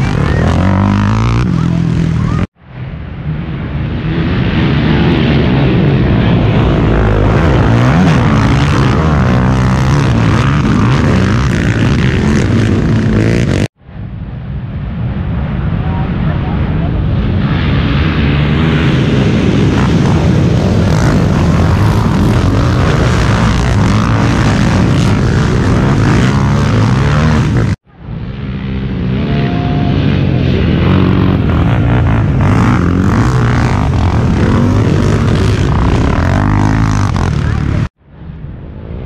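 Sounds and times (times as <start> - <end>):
quad engines revving: 0.0 - 2.6, 4.0 - 13.7, 17.7 - 37.9.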